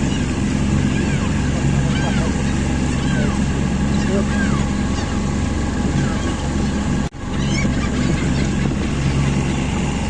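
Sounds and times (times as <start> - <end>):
birds calling: 0.0 - 10.0
motorboat engine running: 0.0 - 10.0.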